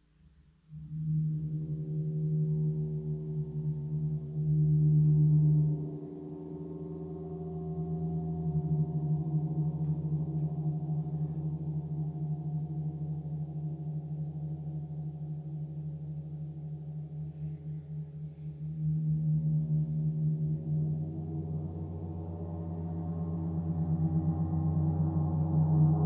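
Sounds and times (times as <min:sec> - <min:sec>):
gong humming with overtones: 0:00.7 - 0:26.0.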